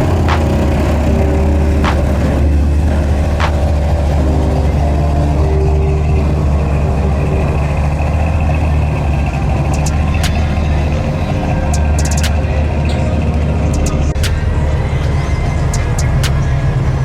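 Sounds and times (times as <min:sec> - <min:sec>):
car and truck engines rumbling: 0:00.0 - 0:17.0.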